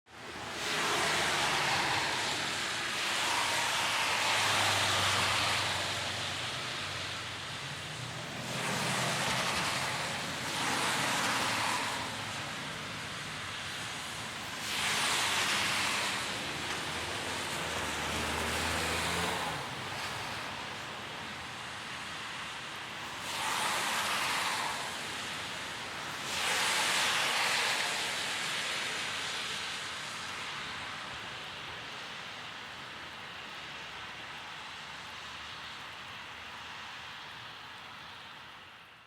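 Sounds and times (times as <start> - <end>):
tyre hiss on wet road: 0.1 - 39.0.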